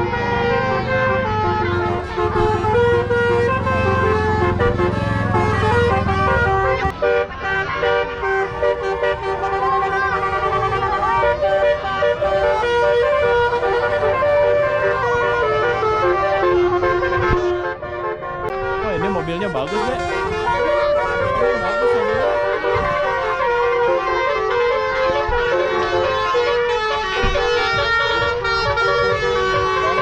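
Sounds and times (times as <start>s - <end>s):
low engine rumble: 0.0s - 30.0s
multi-tone air horn tune: 0.0s - 30.0s.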